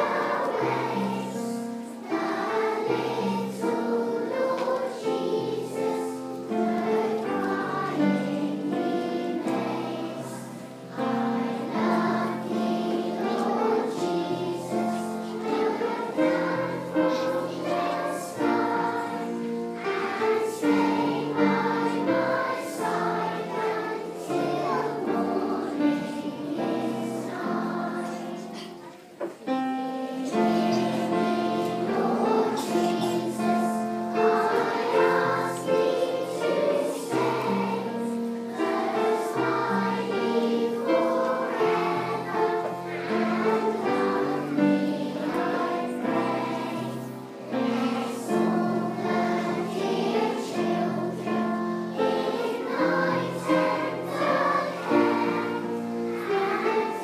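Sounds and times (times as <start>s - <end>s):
children's choir singing: 0.0s - 57.0s
musical accompaniment: 0.0s - 57.0s.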